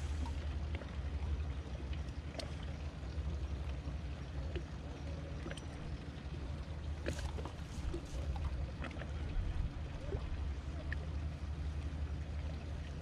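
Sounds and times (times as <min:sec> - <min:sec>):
low uneven rumble: 0:00.0 - 0:13.0
water lapping at hull: 0:00.0 - 0:13.0.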